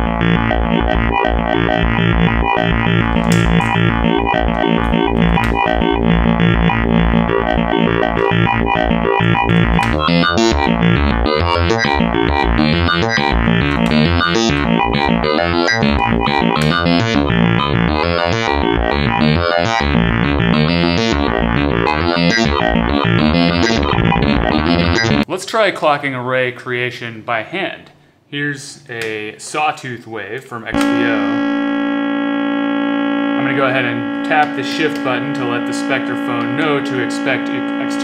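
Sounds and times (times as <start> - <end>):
rhythmic stepping synth timbres: 0.0 - 25.2, 30.8 - 38.0
synthesizer drone: 0.0 - 25.2, 30.8 - 38.0.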